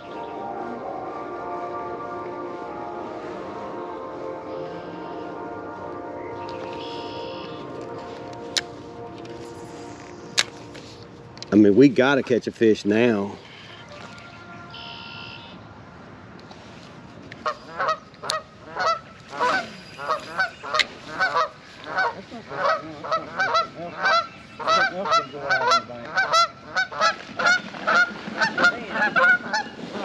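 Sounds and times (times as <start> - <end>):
geese honking: 0.0 - 15.6, 17.4 - 30.0.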